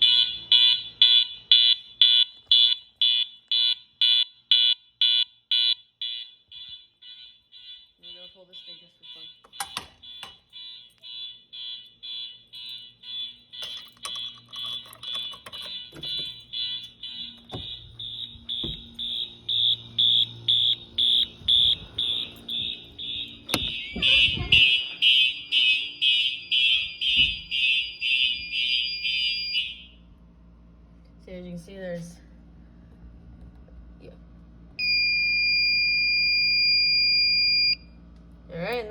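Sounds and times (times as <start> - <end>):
fire alarm horns pulsing: 0.0 - 30.2, 34.8 - 37.9.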